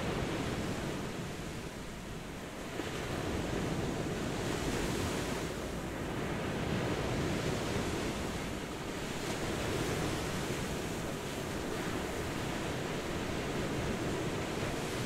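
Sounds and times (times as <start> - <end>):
waves breaking on sandy shore: 0.0 - 15.0.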